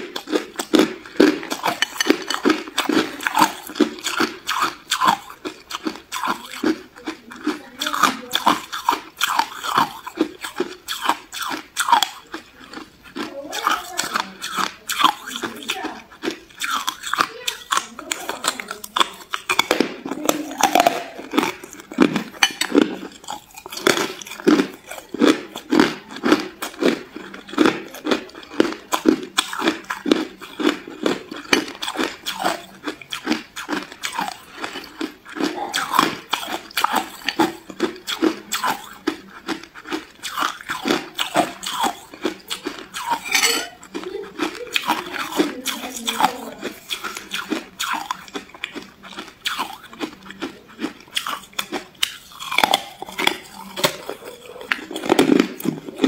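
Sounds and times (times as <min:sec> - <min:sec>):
crunching ice in mouth: 0:00.0 - 0:56.0.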